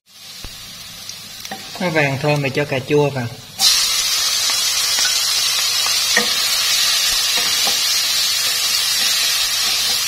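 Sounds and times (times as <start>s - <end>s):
tomatoes sizzling in hot oil: 0.1s - 10.0s.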